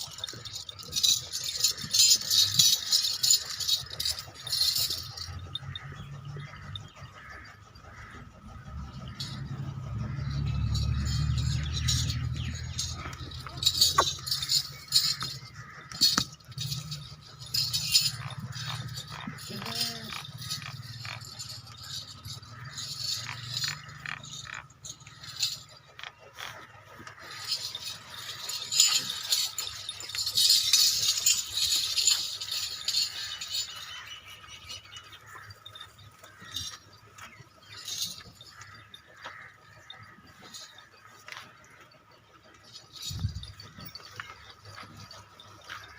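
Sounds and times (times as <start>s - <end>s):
metallic rattling and clinking: 0.0s - 45.9s.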